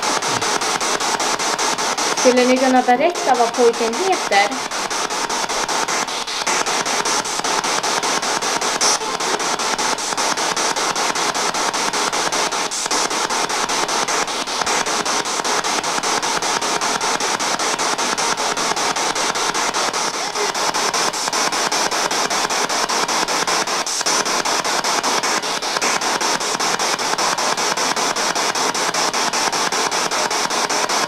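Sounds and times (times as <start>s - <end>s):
radio static hiss: 0.0s - 31.0s
rapid even clicks: 0.0s - 31.0s
static crackle: 0.0s - 31.0s.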